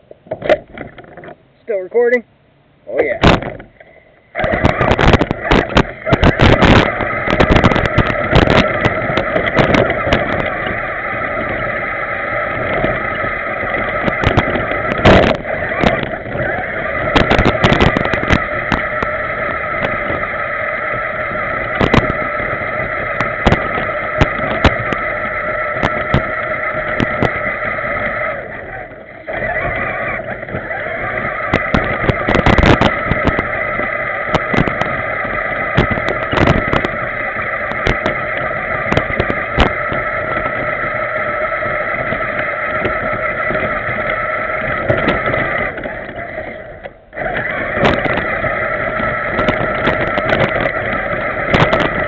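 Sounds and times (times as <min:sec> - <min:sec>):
truck bumping over rough ground: 0:03.2 - 0:03.8, 0:04.4 - 0:52.0
toy truck motor whining: 0:04.3 - 0:52.0.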